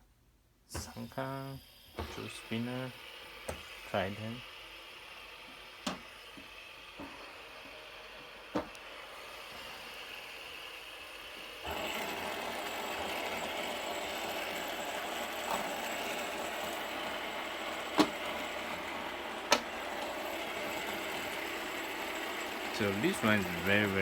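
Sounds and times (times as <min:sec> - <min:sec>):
fidget spinner whirring: 0:00.8 - 0:24.0.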